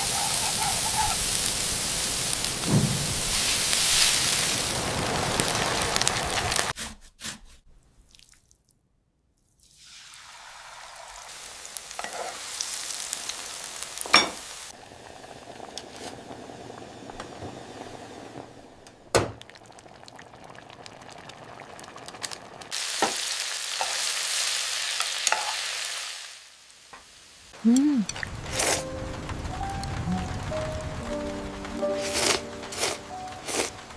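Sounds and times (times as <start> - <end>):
food sizzling in pan: 0.0 - 6.7, 9.6 - 33.9.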